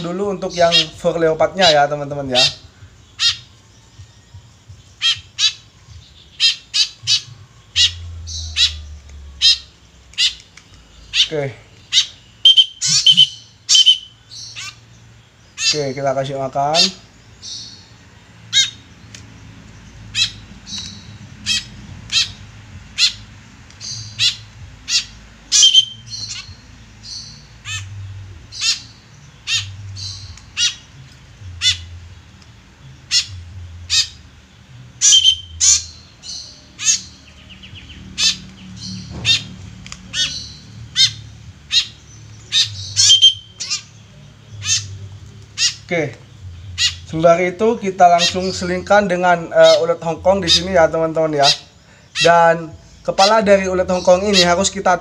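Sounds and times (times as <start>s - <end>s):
fledgling bird begging calls: 0.0s - 19.0s, 20.0s - 55.0s.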